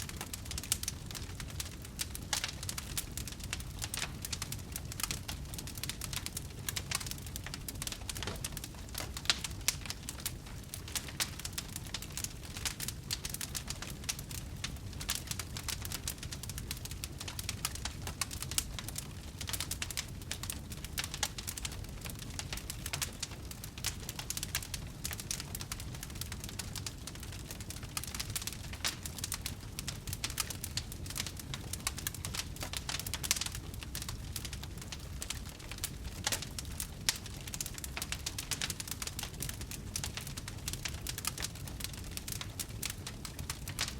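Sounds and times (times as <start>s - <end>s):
low rumble of burning: 0.0s - 43.9s
wood fire crackling: 0.0s - 43.9s.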